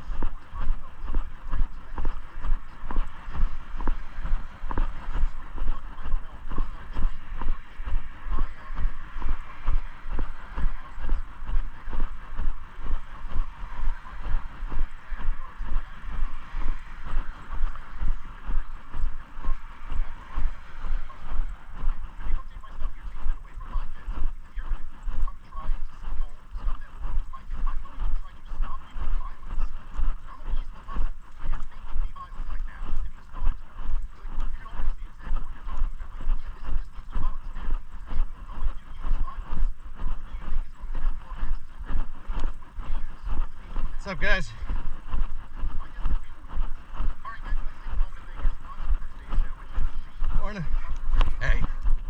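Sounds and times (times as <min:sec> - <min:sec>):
footsteps walking: 0:00.0 - 0:52.0
low rumble: 0:00.0 - 0:52.0.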